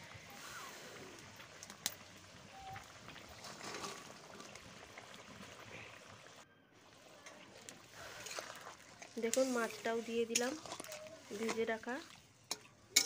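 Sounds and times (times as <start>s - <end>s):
gravy bubbling and hissing: 0.0s - 13.0s.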